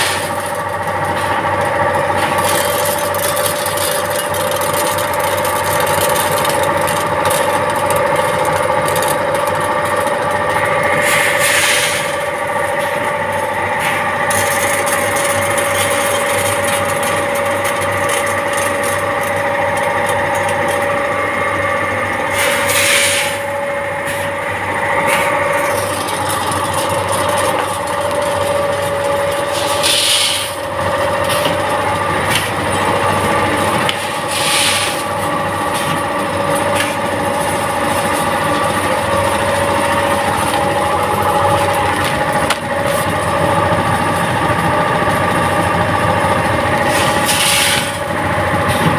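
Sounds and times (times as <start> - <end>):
packing machine humming: 0.0 - 48.9.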